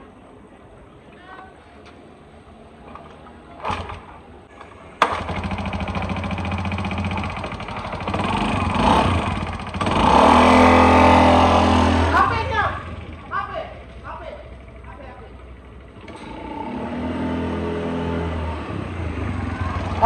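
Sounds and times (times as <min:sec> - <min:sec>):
scooter engine kick-starting: 0:02.9 - 0:20.0.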